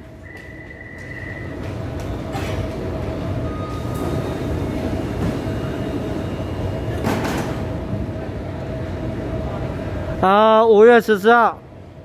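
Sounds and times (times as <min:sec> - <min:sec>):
constant humming tone: 0:00.0 - 0:10.8
electric train rumble: 0:00.0 - 0:12.0.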